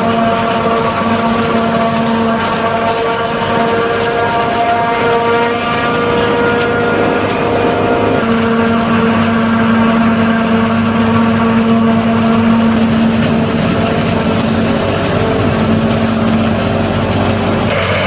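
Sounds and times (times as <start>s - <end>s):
forage harvester whining drone: 0.0s - 18.0s
tractor engine running: 0.0s - 18.0s.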